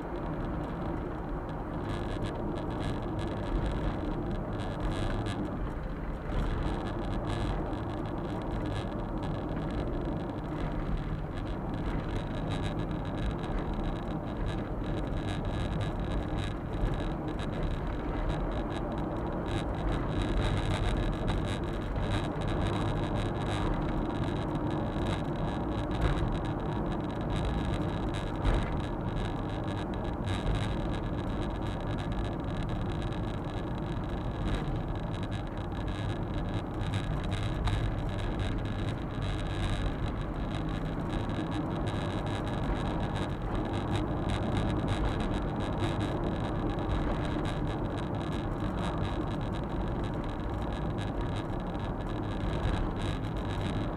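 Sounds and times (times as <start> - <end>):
tyre and road noise: 0.0 - 53.9.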